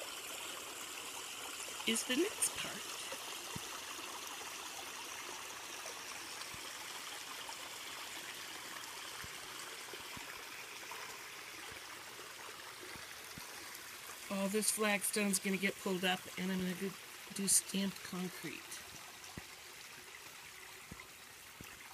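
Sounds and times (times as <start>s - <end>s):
creek trickling over pebbles: 0.0s - 21.9s.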